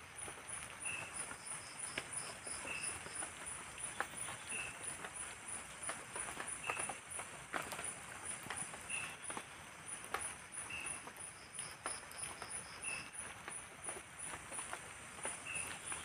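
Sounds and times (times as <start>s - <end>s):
drizzle drips and ticks: 0.0s - 16.0s
insects chirping: 0.0s - 16.0s.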